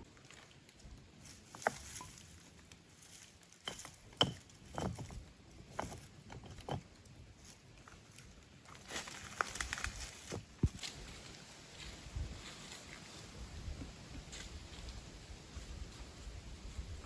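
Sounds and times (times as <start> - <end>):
rustles: 0.0 - 17.0.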